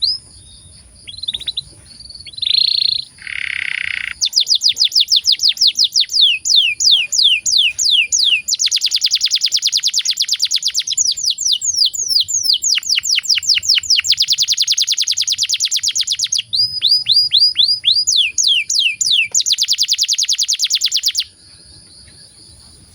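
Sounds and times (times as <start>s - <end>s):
canary singing: 0.0s - 22.9s.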